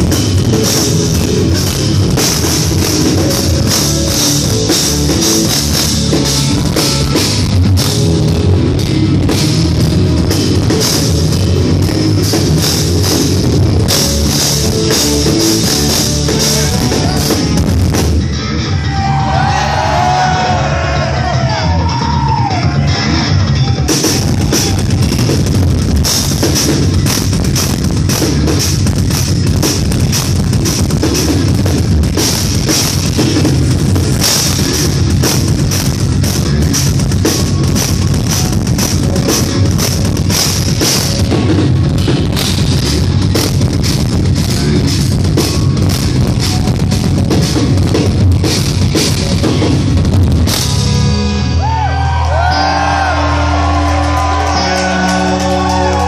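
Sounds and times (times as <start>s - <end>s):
drum kit playing fast: 0.0s - 56.0s
electric guitars: 0.0s - 56.0s.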